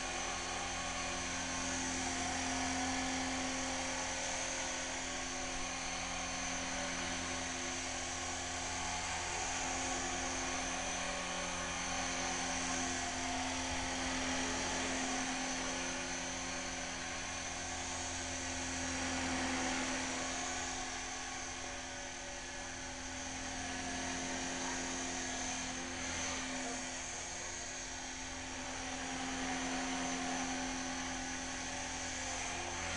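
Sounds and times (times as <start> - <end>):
electric motor whine: 0.0 - 32.9.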